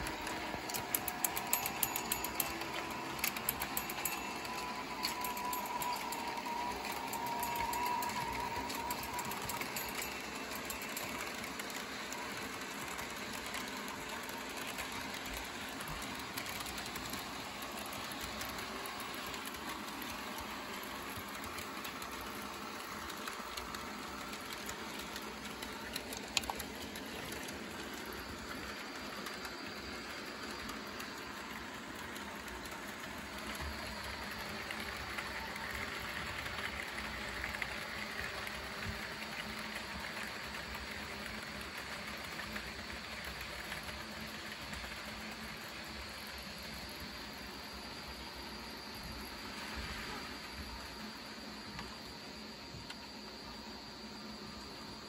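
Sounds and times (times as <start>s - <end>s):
model train motors whirring: 0.0s - 55.0s.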